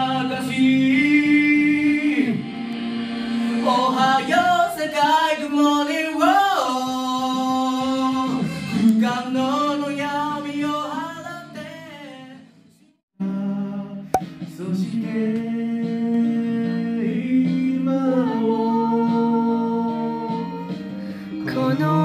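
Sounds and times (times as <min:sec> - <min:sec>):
person singing into a microphone: 0:00.0 - 0:02.4, 0:03.6 - 0:12.4, 0:13.2 - 0:22.0
karaoke backing music: 0:00.0 - 0:22.0.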